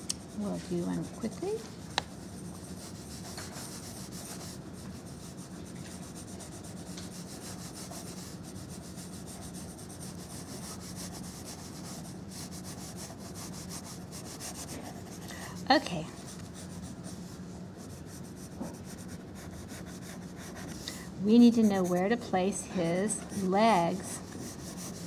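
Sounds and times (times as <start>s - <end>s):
pencil scratching on paper: 2.4s - 17.2s, 17.8s - 22.2s, 23.0s - 25.0s.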